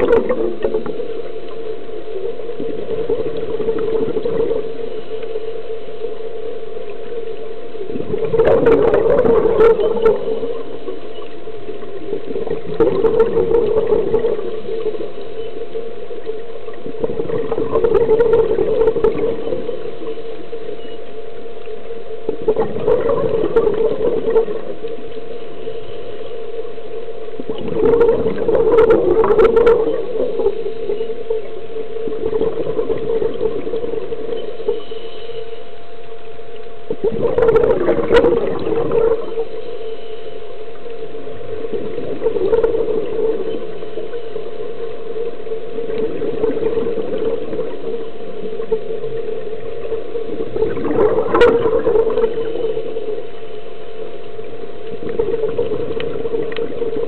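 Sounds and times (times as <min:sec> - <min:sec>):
exhaled breath bubbling underwater: 0:00.0 - 0:05.6, 0:06.5 - 0:21.0, 0:22.2 - 0:35.8, 0:36.5 - 0:57.0
steady low hum: 0:00.0 - 0:57.0.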